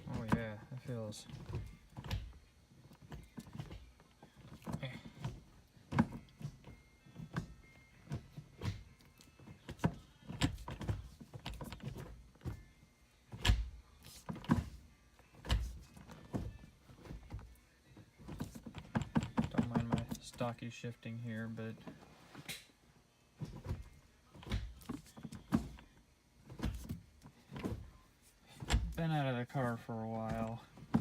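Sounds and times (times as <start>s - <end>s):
gear shifter clunks and clicks: 0.0s - 12.6s, 13.3s - 22.6s, 23.4s - 31.0s.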